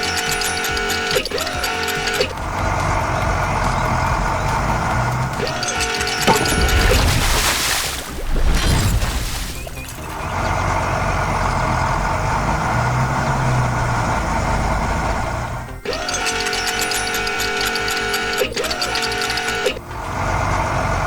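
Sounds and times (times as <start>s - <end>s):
engine rumble: 0.0s - 21.0s.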